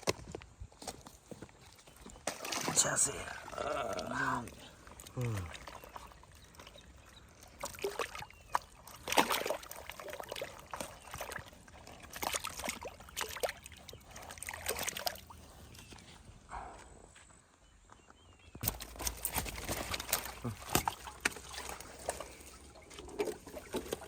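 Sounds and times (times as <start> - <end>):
water splashing and sloshing: 0.9 - 16.4, 18.6 - 24.0.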